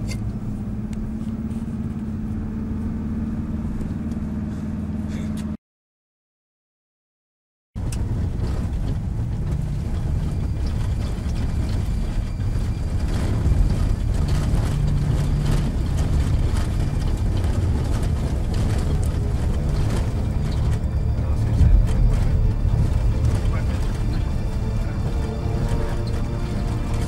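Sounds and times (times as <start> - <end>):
car interior engine and tyre rumble: 0.0 - 5.6, 7.8 - 27.0.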